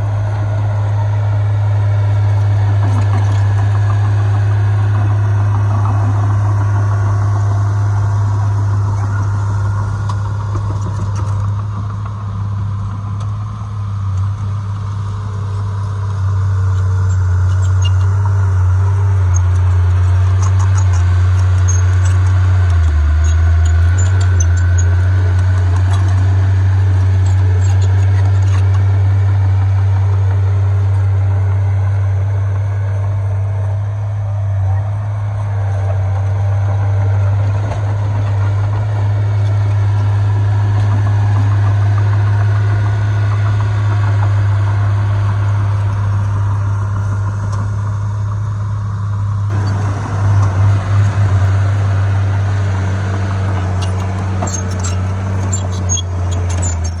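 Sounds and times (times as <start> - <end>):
heavy diesel machinery drone: 0.0 - 57.0.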